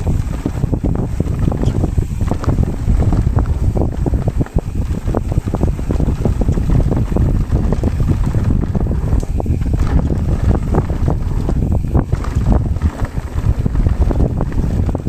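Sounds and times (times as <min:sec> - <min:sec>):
bike rattling on dirt trail: 0:00.0 - 0:15.0
wind on microphone: 0:00.0 - 0:15.0.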